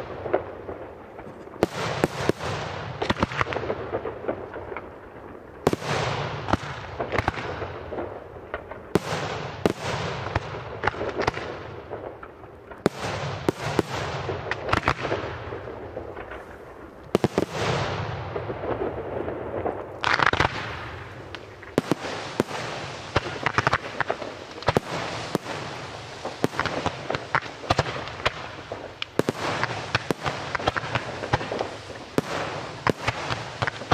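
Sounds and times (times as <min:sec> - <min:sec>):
firework shells booming: 0:00.0 - 0:05.0, 0:05.7 - 0:33.9
firework crackling and fizzing: 0:00.0 - 0:33.9.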